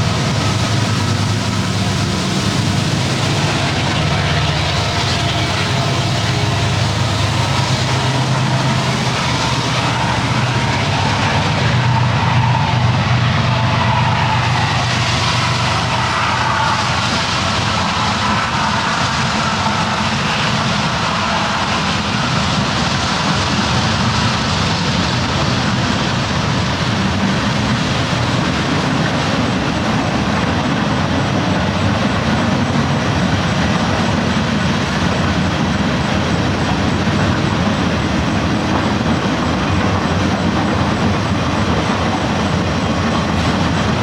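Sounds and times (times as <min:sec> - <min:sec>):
train rumbling on tracks: 0:00.0 - 0:44.0.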